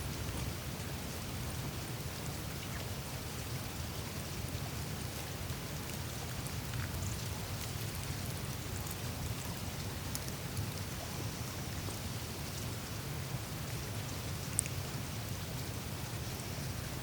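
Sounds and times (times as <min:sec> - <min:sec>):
meltwater trickling and dripping: 0:00.0 - 0:17.0
small streams running: 0:00.0 - 0:17.0.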